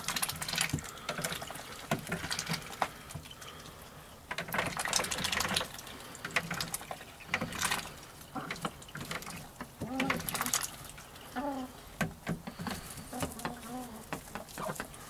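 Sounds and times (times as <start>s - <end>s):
ducks dabbling in water: 0.0s - 15.0s.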